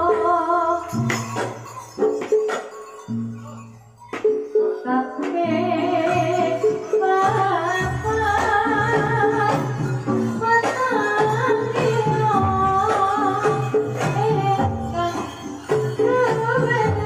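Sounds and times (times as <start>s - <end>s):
drum strokes: 0.0s - 17.0s.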